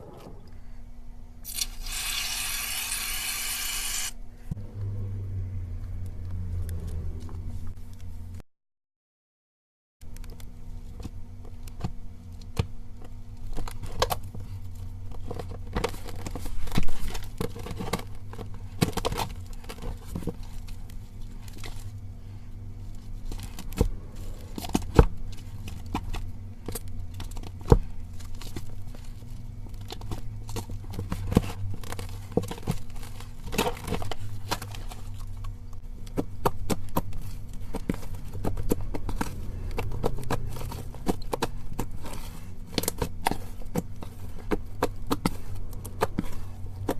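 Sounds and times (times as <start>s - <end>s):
steady low hum: 0.0s - 8.4s, 10.0s - 46.9s.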